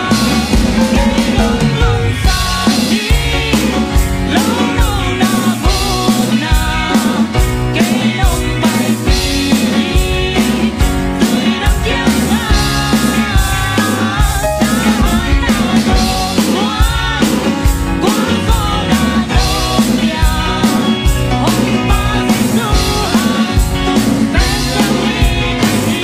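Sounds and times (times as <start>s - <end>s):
bass guitar: 0.0s - 26.0s
drum kit beat: 0.0s - 26.0s
electric guitar: 0.0s - 26.0s
people singing: 0.0s - 26.0s.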